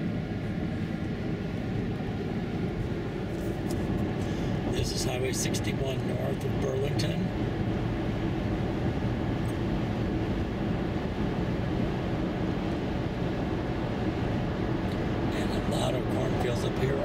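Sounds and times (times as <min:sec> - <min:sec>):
car engine hum: 0:00.0 - 0:17.0
in-cabin road and tyre noise: 0:00.0 - 0:17.0.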